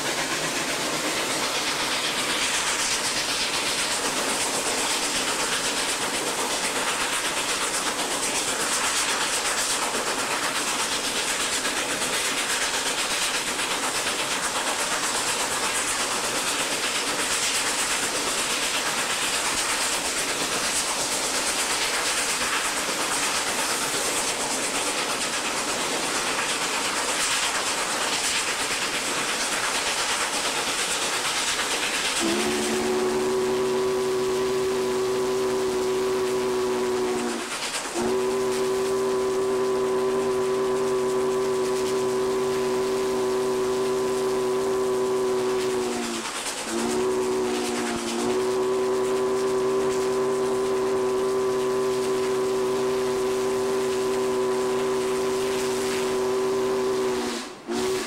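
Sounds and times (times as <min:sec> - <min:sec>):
steam hissing: 0:00.0 - 0:58.0.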